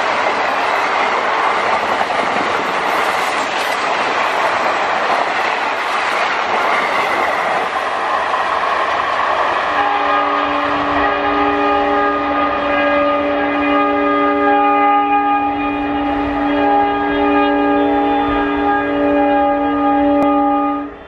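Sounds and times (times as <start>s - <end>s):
passing train rumble: 0.0s - 21.0s.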